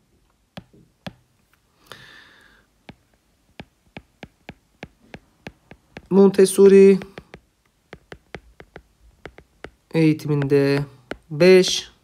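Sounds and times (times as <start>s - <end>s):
stylus tapping on glass screen: 0.6s - 1.3s, 2.8s - 12.0s.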